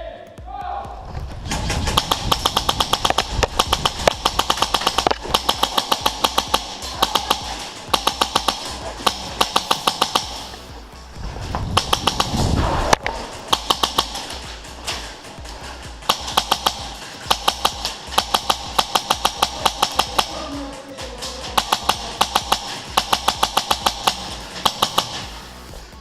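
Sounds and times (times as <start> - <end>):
background music: 0.0 - 26.0
airsoft rifle full-auto bursts: 1.4 - 25.8.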